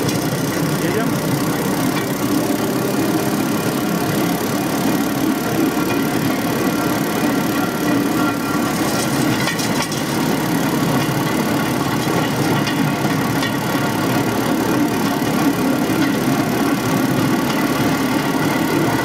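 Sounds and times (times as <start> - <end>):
rail trolley engine droning: 0.0 - 19.0.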